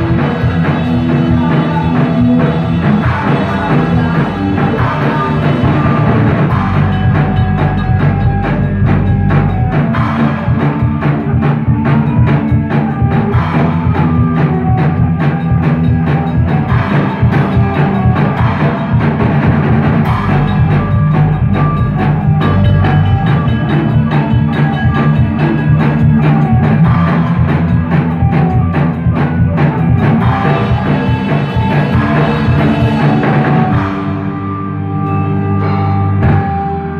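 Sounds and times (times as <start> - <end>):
drum hits: 0.0 - 34.3
rock band playing live: 0.0 - 36.9.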